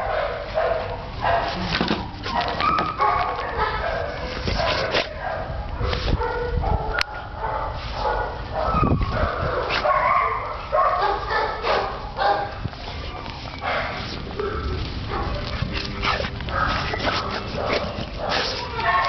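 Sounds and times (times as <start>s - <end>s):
dogs barking and yipping: 0.0s - 19.0s.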